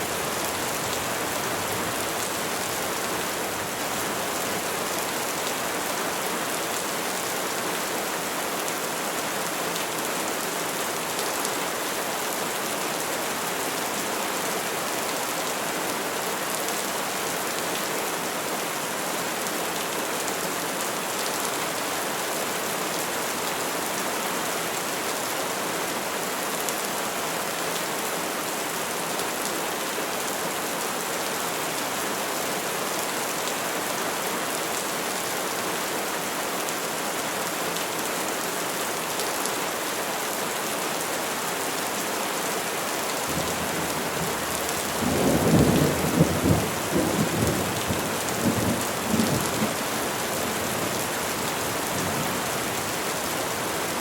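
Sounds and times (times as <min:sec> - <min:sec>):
rain falling on trees: 0:00.0 - 0:54.0.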